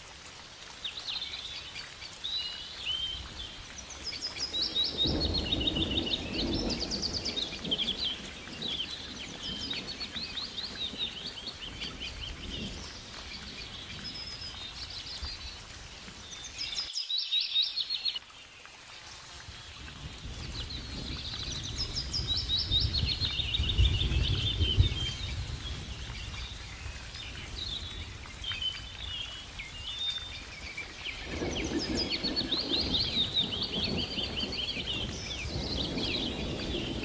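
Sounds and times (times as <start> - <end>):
small birds chirping: 0.6 - 37.0.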